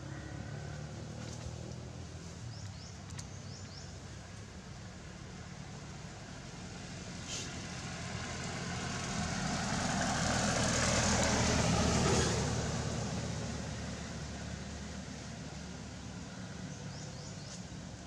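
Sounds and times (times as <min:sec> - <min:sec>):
vehicle engine passing by: 0:00.0 - 0:03.6, 0:06.3 - 0:17.8.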